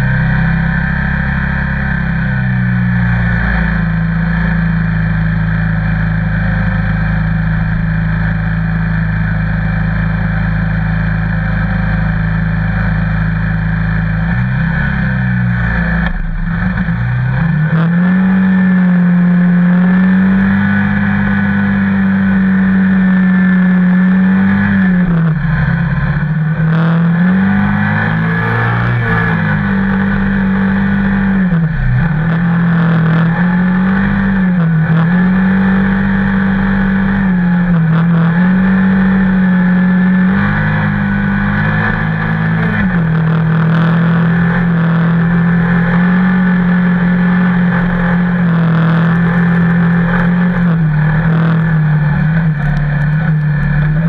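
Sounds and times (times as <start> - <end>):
vehicle engine idling and revving: 0.0 - 54.0.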